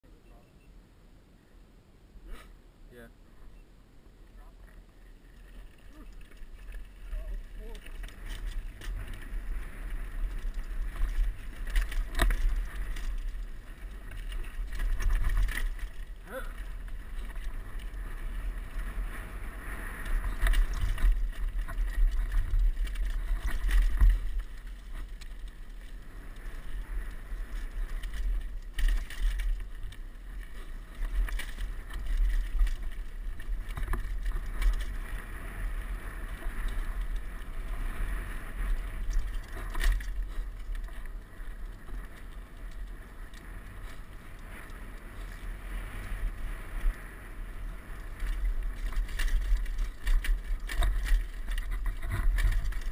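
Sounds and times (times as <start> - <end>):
bike tyres and frame rattling: 4.5 - 52.9.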